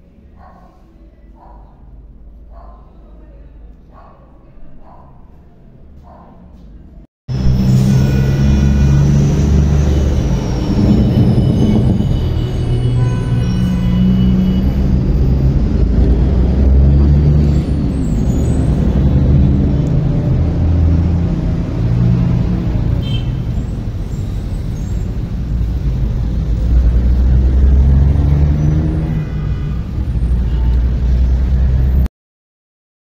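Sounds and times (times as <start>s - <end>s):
road traffic rumble: 0.0s - 32.1s.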